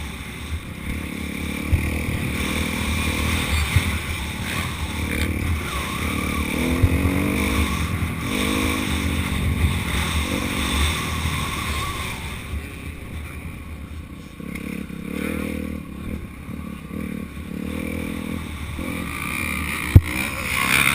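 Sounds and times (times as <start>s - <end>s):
motorbike engine revving: 0.0s - 20.9s.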